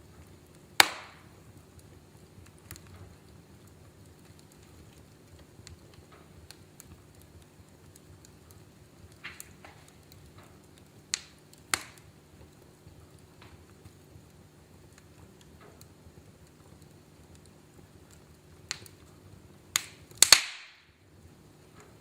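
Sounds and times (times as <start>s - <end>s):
low hiss of flames: 0.0s - 22.0s
wood fire crackling: 0.0s - 22.0s
loud fire pops: 0.1s - 22.0s.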